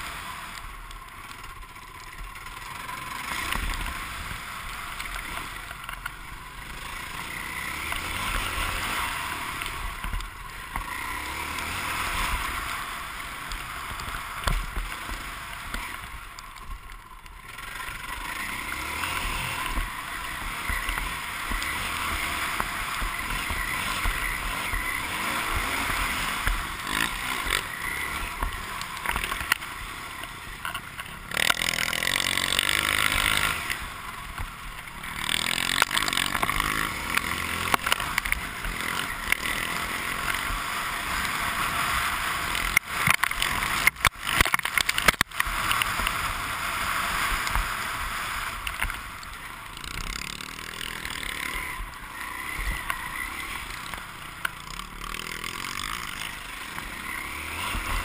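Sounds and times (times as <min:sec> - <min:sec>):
dirt bike engine revving: 0:00.0 - 0:16.3, 0:17.3 - 0:58.0.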